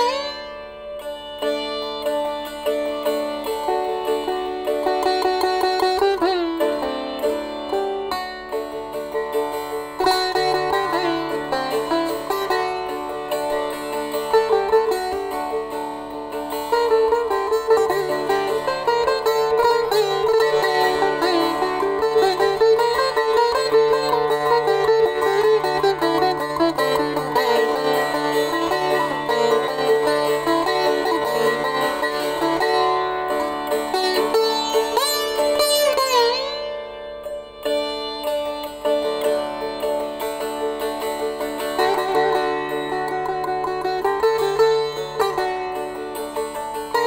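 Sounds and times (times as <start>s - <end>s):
plucked string melody: 0.0s - 47.0s.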